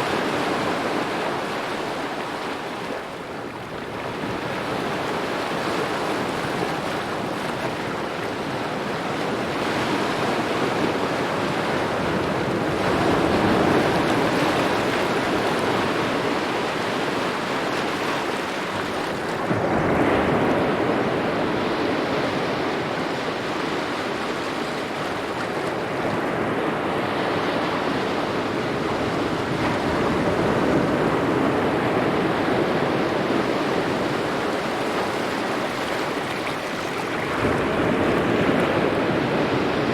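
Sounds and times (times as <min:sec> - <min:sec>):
small ocean waves lapping: 0:00.0 - 0:39.9.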